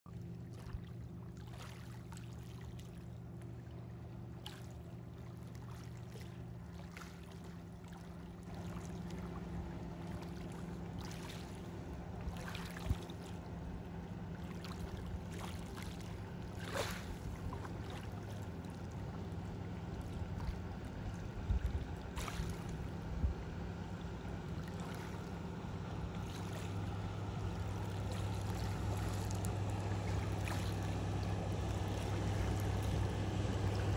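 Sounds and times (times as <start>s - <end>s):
distant motorboat engine hum: 0.1s - 33.9s
small waves lapping: 0.1s - 33.9s.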